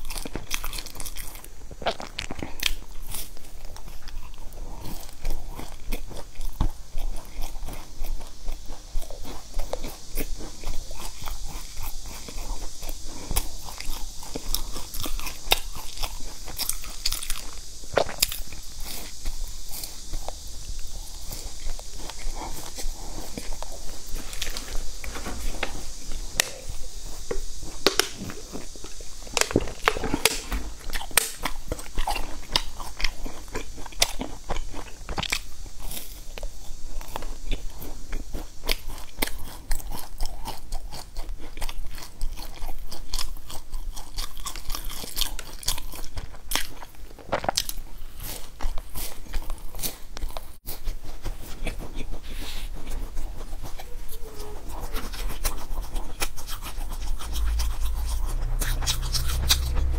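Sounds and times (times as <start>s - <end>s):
crunchy food being chewed: 0.0s - 59.9s.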